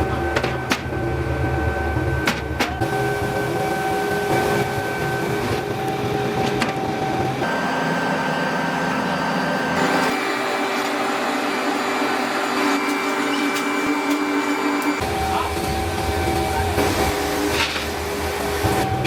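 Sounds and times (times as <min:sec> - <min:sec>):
workshop machinery whine and hum: 0:00.0 - 0:19.0.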